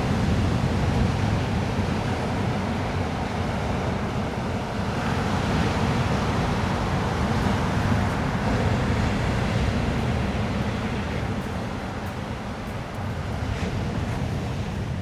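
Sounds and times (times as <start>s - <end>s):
ocean surf washing on beach: 0.0s - 15.0s
wind rumble on microphone: 0.0s - 15.0s.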